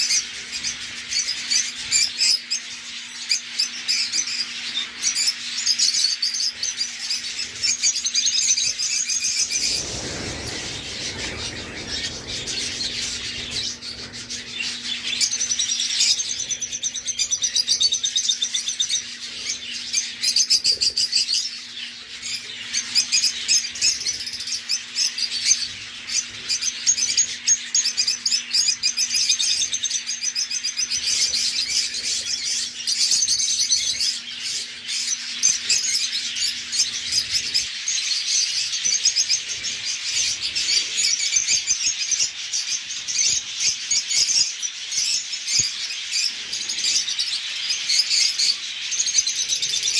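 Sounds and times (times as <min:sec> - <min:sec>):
cage birds chirping and twittering: 0:00.0 - 0:49.9
faint steady hum: 0:00.0 - 0:49.9.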